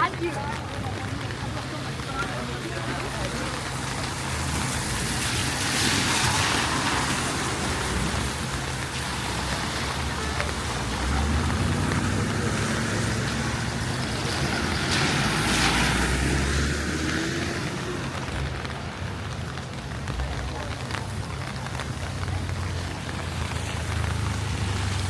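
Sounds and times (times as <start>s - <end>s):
steady rain: 0.0s - 25.0s
tyres hissing on wet street: 0.0s - 25.0s.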